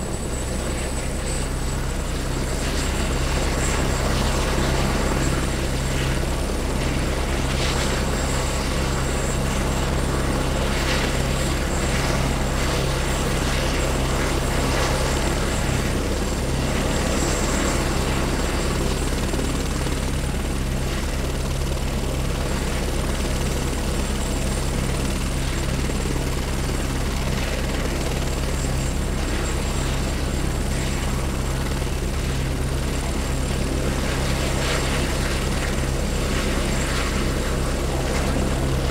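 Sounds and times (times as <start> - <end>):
helicopter engine hum: 0.0 - 38.9
helicopter rotor chop: 0.0 - 38.9.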